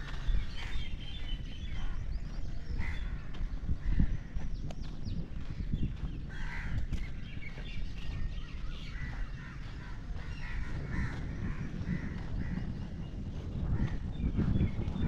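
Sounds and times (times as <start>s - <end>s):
birds calling: 0.0s - 15.0s
footsteps: 0.0s - 15.0s
wind on microphone: 0.0s - 15.0s.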